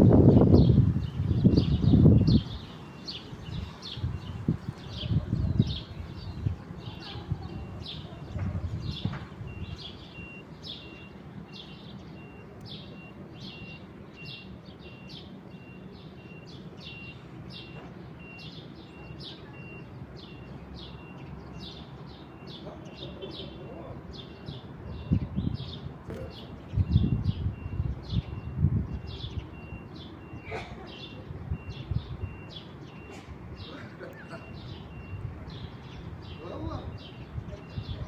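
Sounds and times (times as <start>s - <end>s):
birds chirping: 0.1s - 38.0s.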